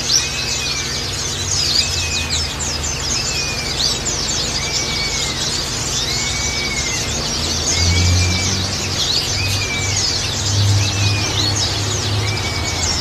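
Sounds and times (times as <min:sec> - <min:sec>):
birds twittering chorus: 0:00.0 - 0:13.0.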